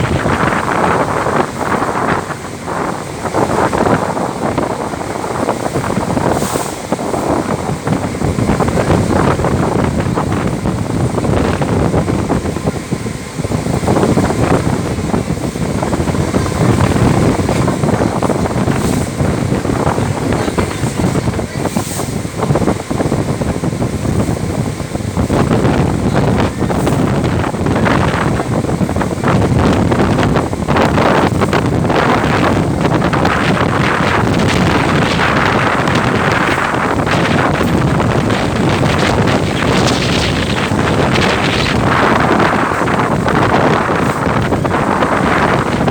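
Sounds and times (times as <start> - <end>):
strong wind buffeting microphone: 0.0 - 45.9.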